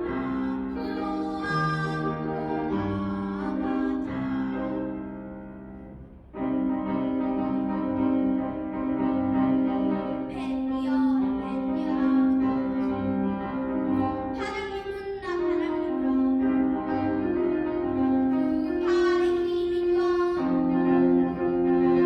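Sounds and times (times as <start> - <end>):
piano accompaniment: 0.0 - 22.0
slow melody of held notes: 0.0 - 22.0.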